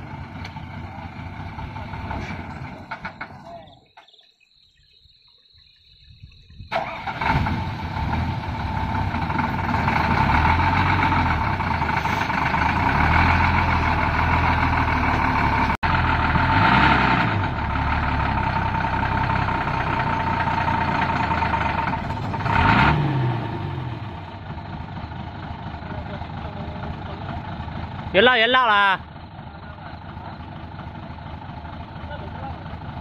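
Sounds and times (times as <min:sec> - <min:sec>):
diesel truck engine revving: 0:00.0 - 0:03.4, 0:06.7 - 0:33.0.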